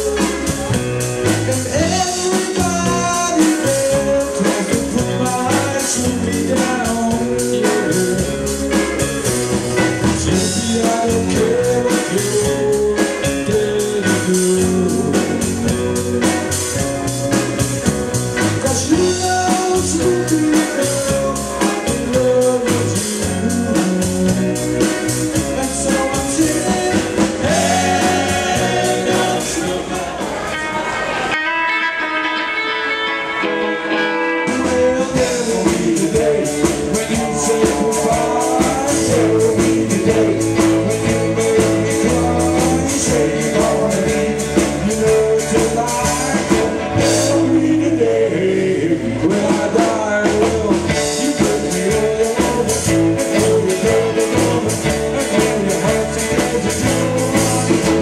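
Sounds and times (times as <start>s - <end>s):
man singing: 0.0s - 9.3s, 10.0s - 17.0s, 18.4s - 30.4s, 33.9s - 58.0s
drum kit steady beat: 0.0s - 30.7s, 34.5s - 48.5s, 49.2s - 58.0s
electric guitars: 0.0s - 58.0s.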